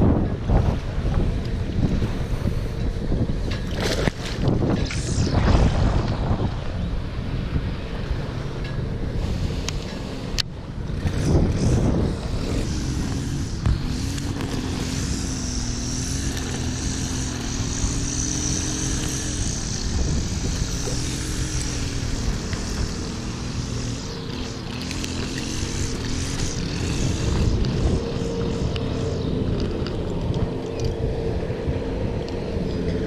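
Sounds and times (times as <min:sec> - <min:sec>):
engine drone: 0:00.0 - 0:33.0
wind buffeting microphone: 0:00.0 - 0:33.0.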